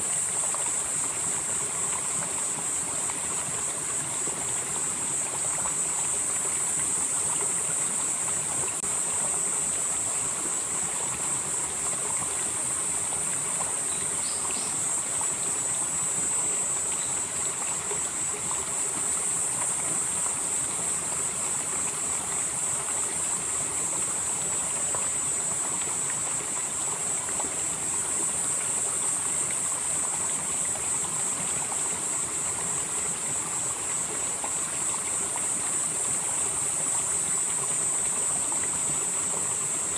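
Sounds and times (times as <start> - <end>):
insects droning: 0.0 - 39.9
stream flowing: 0.0 - 39.9.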